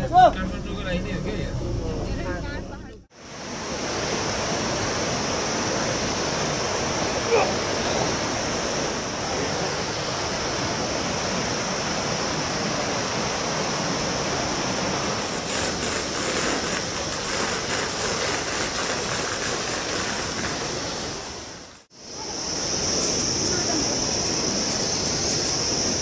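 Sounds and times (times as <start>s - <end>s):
rocky river rushing: 3.2s - 26.0s.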